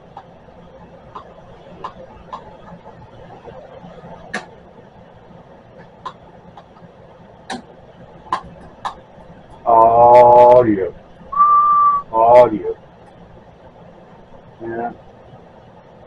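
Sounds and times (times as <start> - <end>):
cooling blower humming: 0.0 - 16.0.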